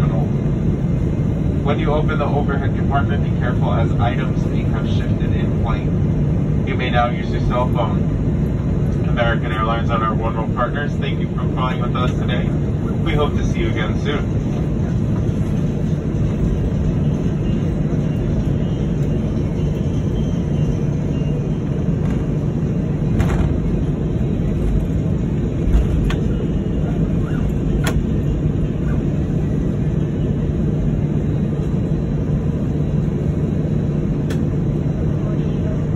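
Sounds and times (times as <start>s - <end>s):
aircraft cabin engine hum: 0.0s - 35.9s.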